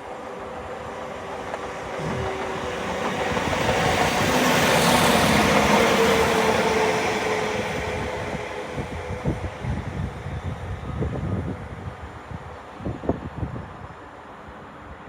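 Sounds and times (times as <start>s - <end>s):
train engine hum: 0.0s - 15.0s
train wheel and rail noise: 0.0s - 15.0s.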